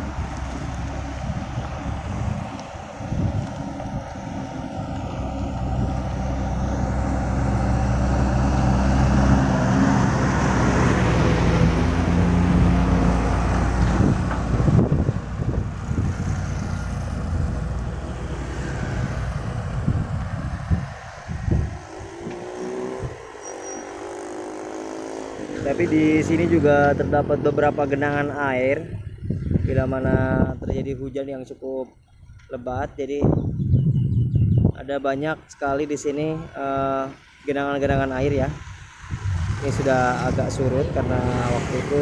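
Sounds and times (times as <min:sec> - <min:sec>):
truck diesel engine passing: 0:00.0 - 0:29.0, 0:37.2 - 0:42.0
cars passing: 0:00.0 - 0:30.4, 0:35.2 - 0:42.0
motorcycles passing: 0:00.0 - 0:30.4, 0:35.8 - 0:42.0.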